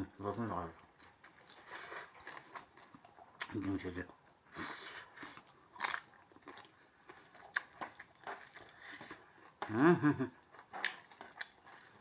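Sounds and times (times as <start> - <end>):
chewing noises: 0.3 - 12.0.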